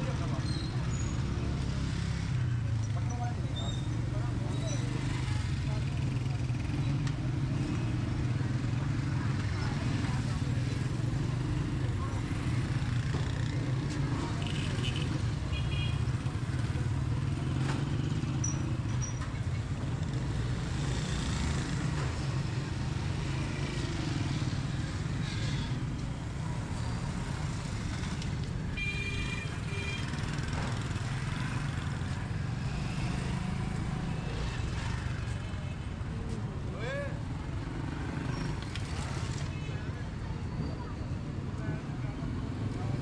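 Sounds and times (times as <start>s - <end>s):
general street noise: 0.0s - 43.0s
motorcycle and traffic engines rumbling: 0.0s - 43.0s.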